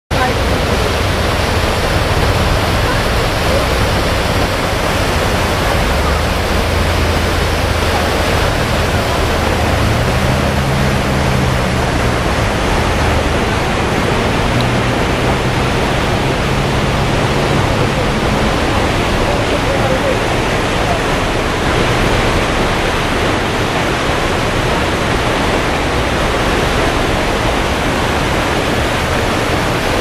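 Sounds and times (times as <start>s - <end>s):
floodwater rushing: 0.1s - 30.0s.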